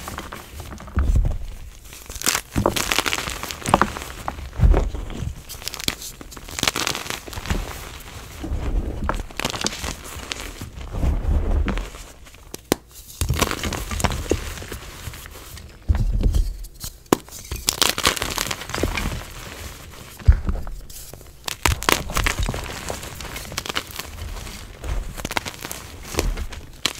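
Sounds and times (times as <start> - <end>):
chalk crunching and crumbling: 0.0 - 26.9.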